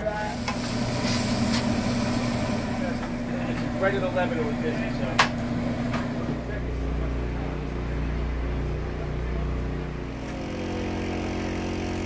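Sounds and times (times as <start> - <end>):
low engine hum: 0.9 - 12.0.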